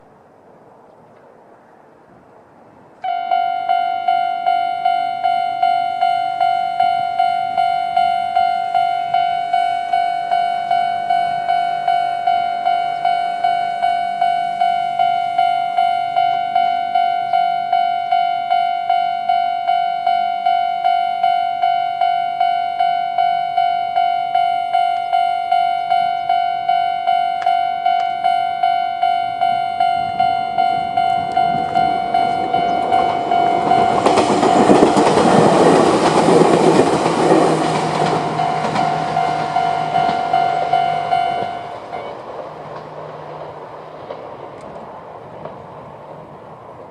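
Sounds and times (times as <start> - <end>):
level crossing alarm dinging: 3.0 - 42.2.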